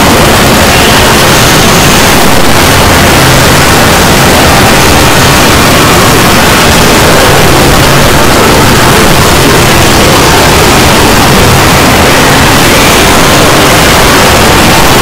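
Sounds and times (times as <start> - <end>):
distorted wall of noise: 0.0 - 15.0.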